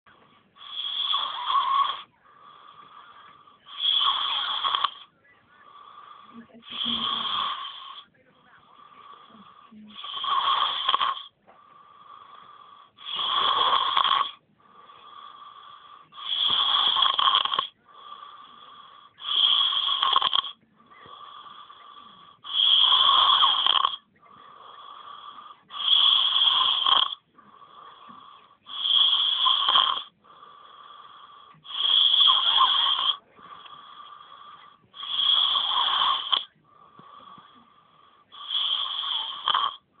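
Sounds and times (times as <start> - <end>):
wheezy breath: 0.1 - 4.9, 5.5 - 40.0
person snoring heavily: 0.6 - 39.9.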